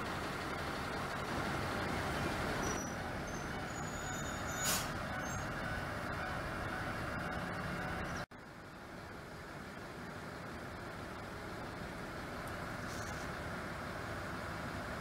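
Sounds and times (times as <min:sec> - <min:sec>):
diesel engine rumble idling: 0:00.0 - 0:15.0.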